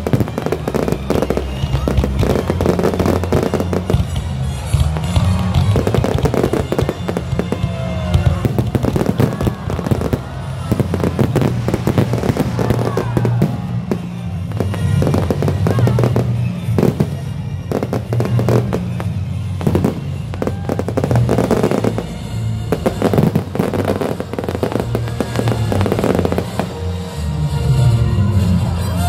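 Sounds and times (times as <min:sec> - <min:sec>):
fireworks bangs and crackles: 0:00.0 - 0:29.0
music: 0:00.0 - 0:29.0.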